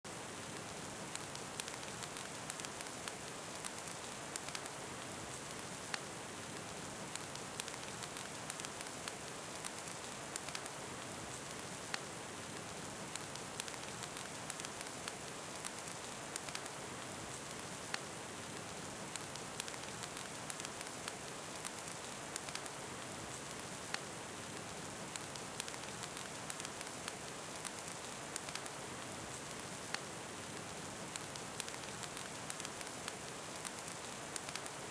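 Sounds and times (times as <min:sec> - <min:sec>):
fireplace crackling: 0:00.2 - 0:34.9.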